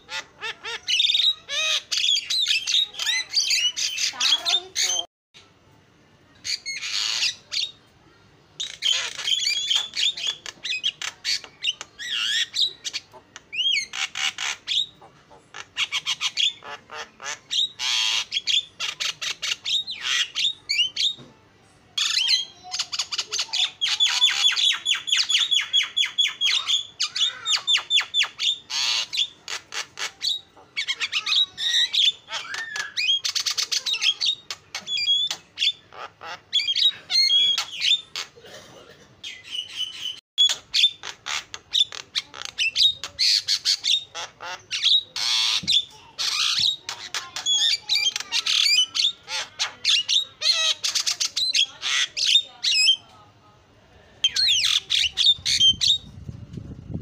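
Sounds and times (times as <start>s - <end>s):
bird singing chatter and whistles: 0.1s - 5.1s, 8.6s - 21.2s, 22.0s - 38.3s, 39.3s - 53.1s, 54.2s - 56.2s.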